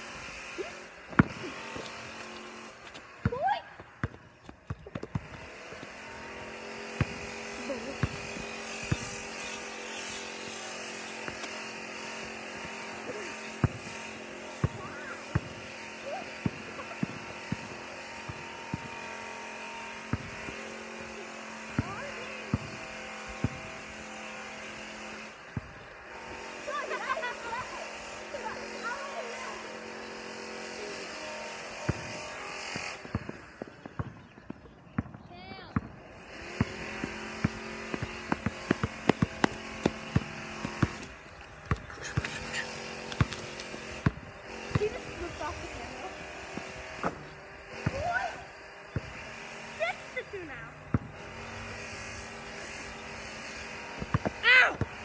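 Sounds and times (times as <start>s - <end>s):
basketball bouncing on pavement: 0.0s - 30.4s, 31.5s - 55.0s.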